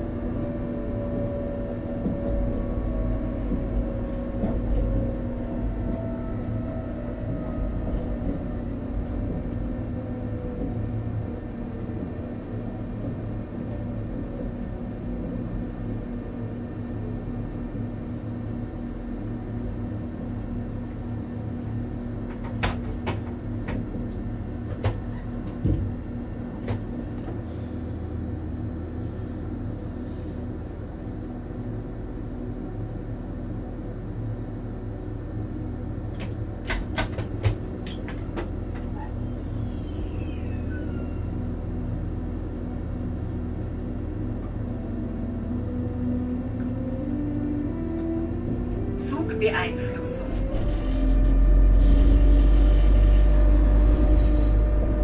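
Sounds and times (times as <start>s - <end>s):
electric train hum and whine: 0.0s - 55.0s.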